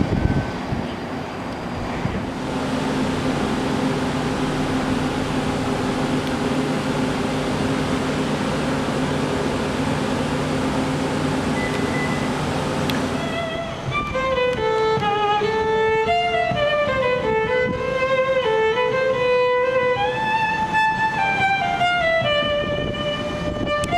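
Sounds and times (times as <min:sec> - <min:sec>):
machine rushing drone: 0:00.0 - 0:23.9
low hum: 0:01.3 - 0:23.9.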